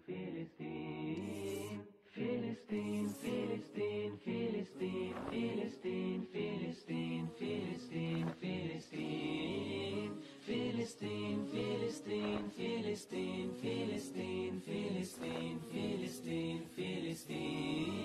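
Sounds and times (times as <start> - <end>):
voices singing together: 0.0 - 18.0.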